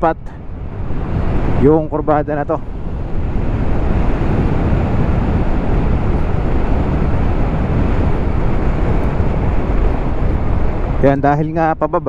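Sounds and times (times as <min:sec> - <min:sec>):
road and engine rumble: 0:00.0 - 0:12.0
wind on microphone: 0:00.0 - 0:12.0.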